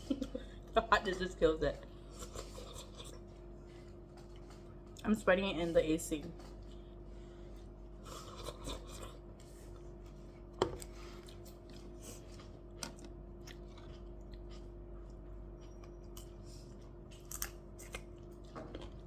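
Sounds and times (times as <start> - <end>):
steady low hum: 0.0 - 19.0
quiet chewing: 0.1 - 5.1, 6.3 - 19.0.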